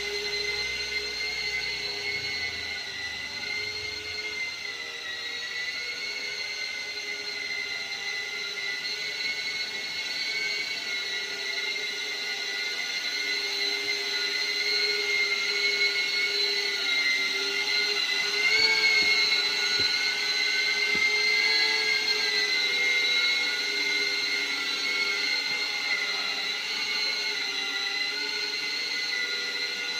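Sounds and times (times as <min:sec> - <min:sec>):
drone propeller whine: 0:00.0 - 0:29.9.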